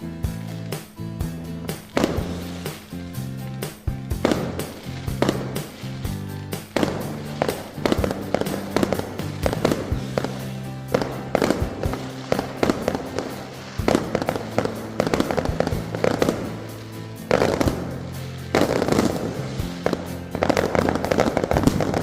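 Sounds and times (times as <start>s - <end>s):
background music with low notes: 0.0s - 22.0s
fireworks cracking and banging: 0.0s - 22.0s.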